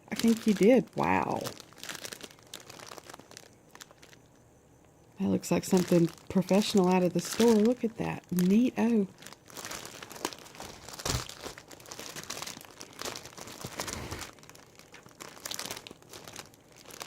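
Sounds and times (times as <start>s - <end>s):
gift packaging rustling: 0.1s - 4.2s, 5.6s - 17.0s.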